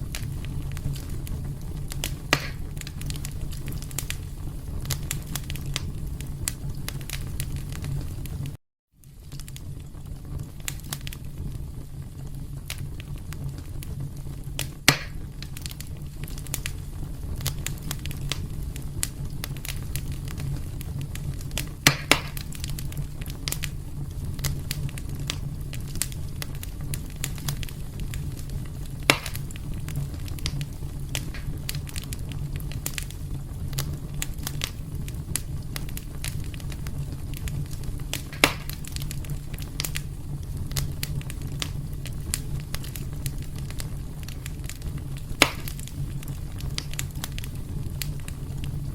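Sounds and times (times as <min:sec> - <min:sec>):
sharp pops from fire: 0:00.0 - 0:48.9
wood fire crackling: 0:00.0 - 0:48.9.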